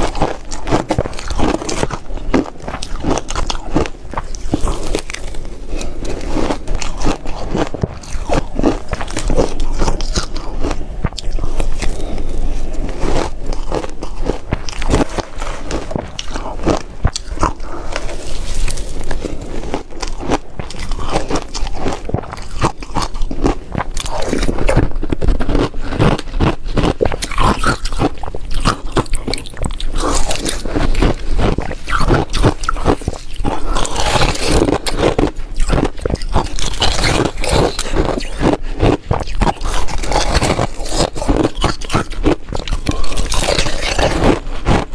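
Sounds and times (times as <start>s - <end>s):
ice crunching being chewed: 0.0s - 44.9s.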